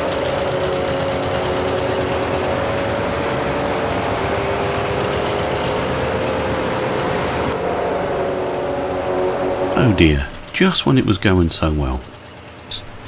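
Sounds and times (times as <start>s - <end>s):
locomotive running: 0.0s - 13.0s.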